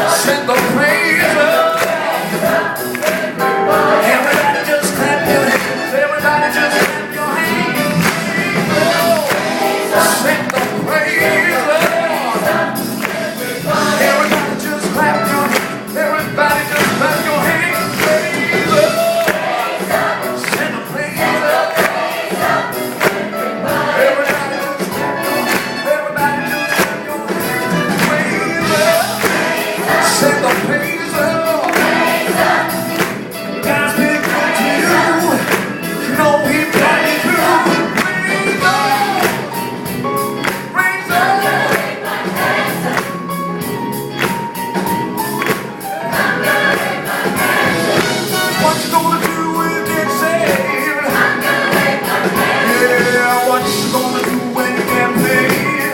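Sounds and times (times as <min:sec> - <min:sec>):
drums: 0:00.0 - 0:55.9
gospel choir singing: 0:00.0 - 0:55.9
live band playing: 0:00.0 - 0:55.9.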